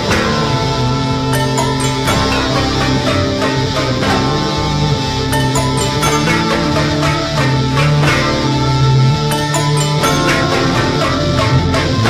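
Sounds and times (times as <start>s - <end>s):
sustained tones: 0.0s - 12.0s.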